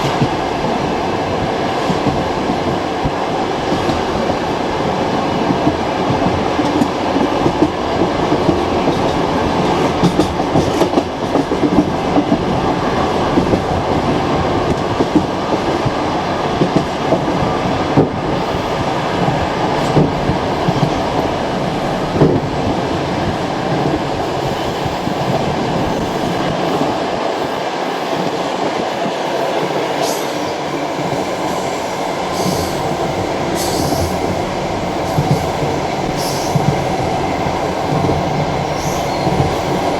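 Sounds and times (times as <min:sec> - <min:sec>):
train carriage rumbling on track: 0:00.0 - 0:39.9.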